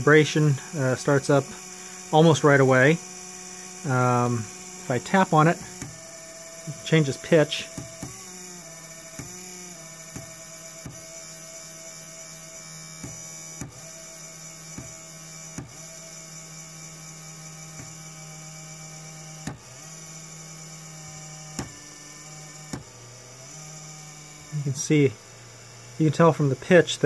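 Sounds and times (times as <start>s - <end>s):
cooling fan vibrating hum: 0.0s - 27.0s.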